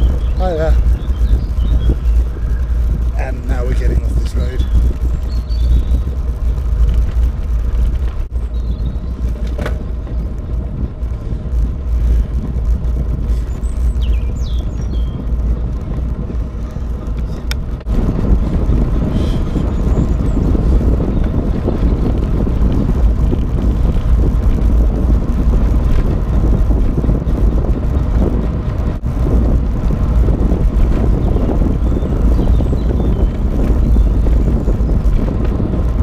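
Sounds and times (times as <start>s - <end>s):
road rumble: 0.0s - 36.0s
wind buffeting microphone: 0.0s - 36.0s.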